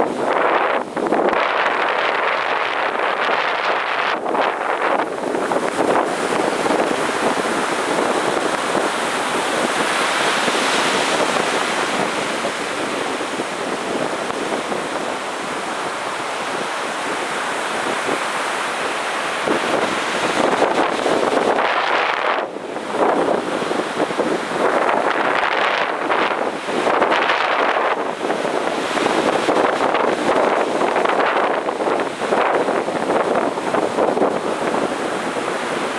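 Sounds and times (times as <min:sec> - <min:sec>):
ocean surf breaking on beach: 0:00.0 - 0:35.9
wind on microphone: 0:00.0 - 0:35.9.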